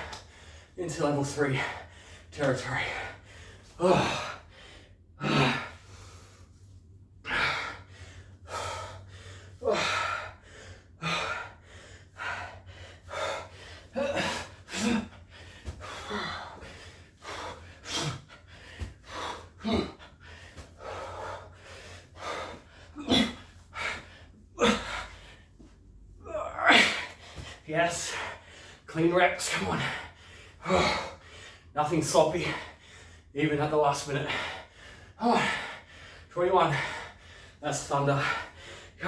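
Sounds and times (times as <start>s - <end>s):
man breathing hard: 0.0s - 26.2s, 26.8s - 33.4s, 34.1s - 39.0s.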